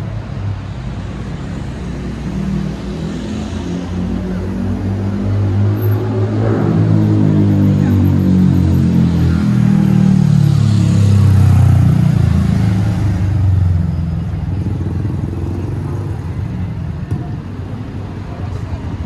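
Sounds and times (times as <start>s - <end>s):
motorcycles passing: 0.0s - 19.0s.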